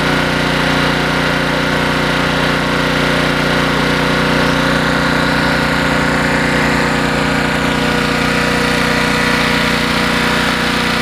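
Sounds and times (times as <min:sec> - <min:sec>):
portable generator engine running: 0:00.0 - 0:11.0.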